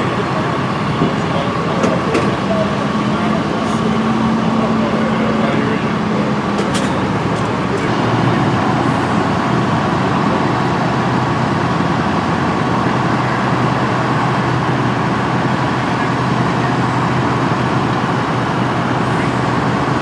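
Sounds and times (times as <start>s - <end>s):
traffic passing: 0.0s - 20.0s.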